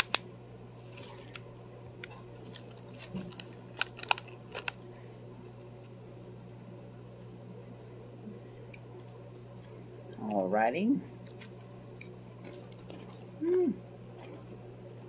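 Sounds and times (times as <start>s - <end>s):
cracker crunching: 0.0s - 6.2s, 7.5s - 10.3s, 11.1s - 14.7s
steady low hum: 0.0s - 15.0s.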